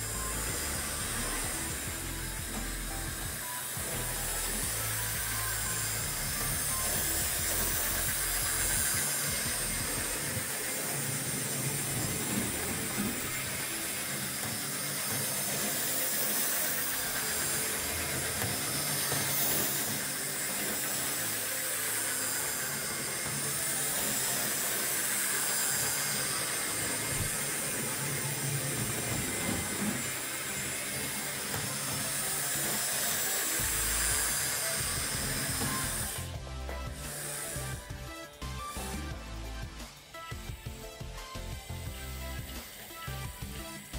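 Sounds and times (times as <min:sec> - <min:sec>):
small electric motors whirring: 0:00.0 - 0:43.9.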